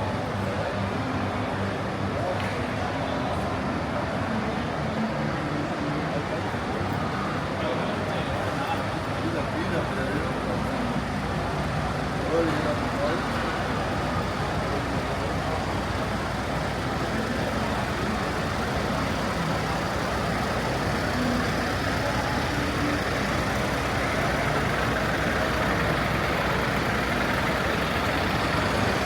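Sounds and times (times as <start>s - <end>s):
heavy truck engine idling: 3.0s - 29.0s.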